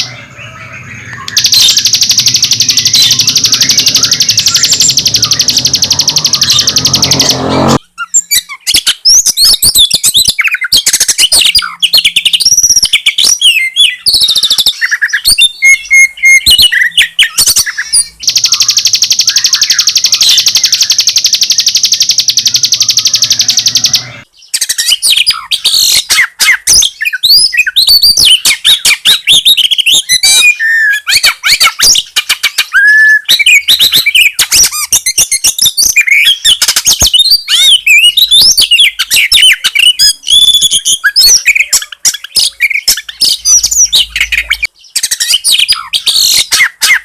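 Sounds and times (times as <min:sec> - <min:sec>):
bird whistles and chirps: 0:00.0 - 0:47.0
high bird trill: 0:00.0 - 0:47.0.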